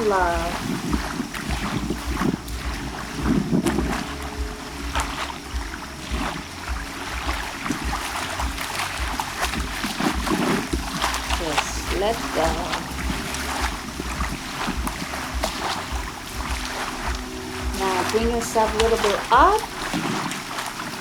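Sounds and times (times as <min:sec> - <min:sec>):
water lapping and splashing: 0:00.0 - 0:21.0
wind rumbling on microphone: 0:00.0 - 0:21.0.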